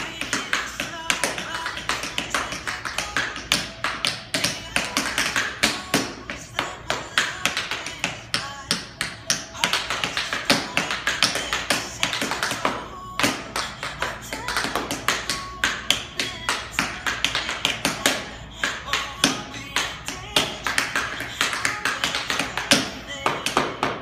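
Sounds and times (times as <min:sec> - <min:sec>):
tap shoes clicking on hard floor: 0:00.0 - 0:24.0.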